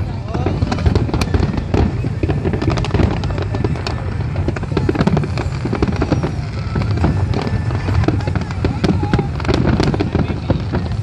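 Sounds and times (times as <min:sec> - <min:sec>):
fireworks crackling and popping: 0:00.0 - 0:11.0
low rumble of firework bursts: 0:00.0 - 0:11.0.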